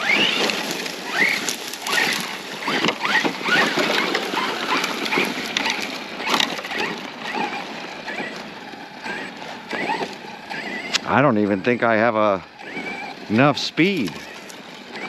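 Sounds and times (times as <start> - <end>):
dry weeds scraping and rustling: 0.0 - 11.1, 13.7 - 15.0
electric motor whining: 0.0 - 15.0.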